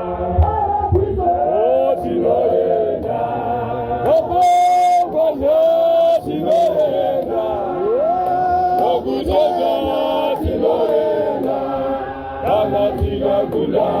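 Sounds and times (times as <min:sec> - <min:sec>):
group singing a hymn: 0:00.0 - 0:14.0.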